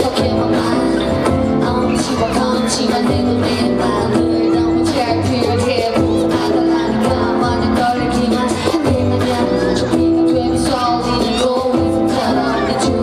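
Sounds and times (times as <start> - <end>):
live pop band music: 0.0 - 13.0
woman singing: 0.0 - 13.0.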